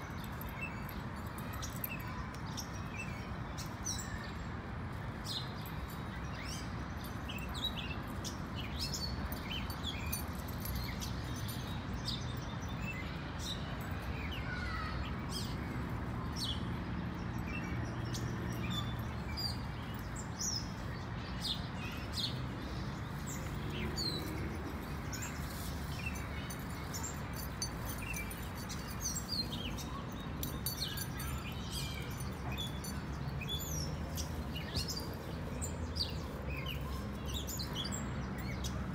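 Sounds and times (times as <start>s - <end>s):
small birds chirping: 5.2s - 38.9s.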